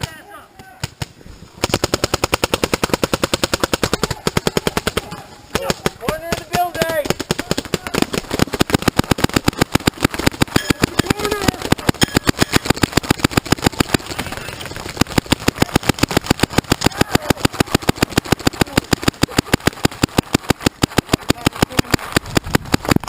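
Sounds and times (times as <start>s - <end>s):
paintball markers firing: 0.0s - 23.0s.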